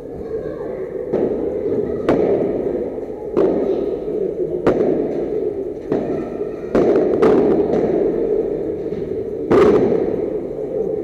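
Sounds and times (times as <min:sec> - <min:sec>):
rackets striking ball: 0:01.1 - 0:10.9.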